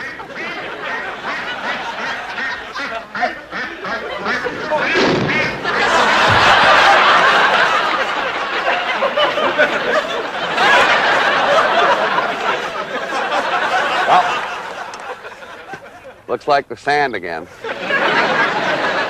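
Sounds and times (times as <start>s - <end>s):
audience laughter: 0.0s - 16.3s, 17.6s - 19.0s.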